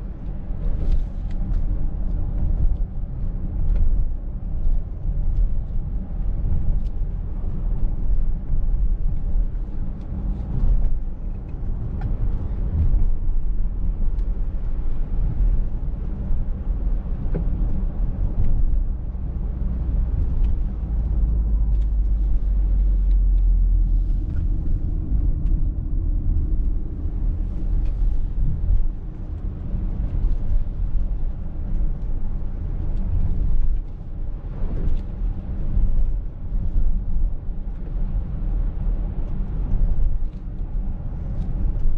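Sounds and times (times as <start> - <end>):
road and drivetrain rumble: 0.0 - 41.9.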